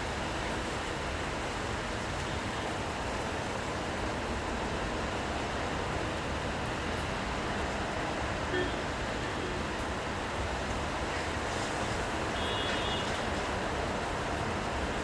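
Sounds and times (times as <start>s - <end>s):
rainfall: 0.0s - 15.0s
street traffic: 0.0s - 15.0s.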